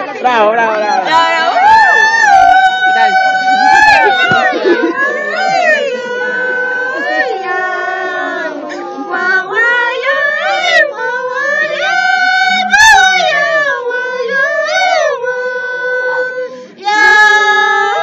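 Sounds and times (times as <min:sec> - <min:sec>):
women singing unaccompanied: 0:00.0 - 0:18.0.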